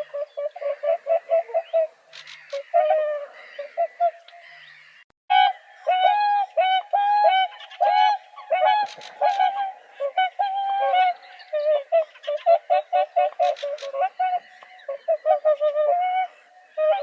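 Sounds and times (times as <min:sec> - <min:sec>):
swans calling: 0:00.0 - 0:17.0.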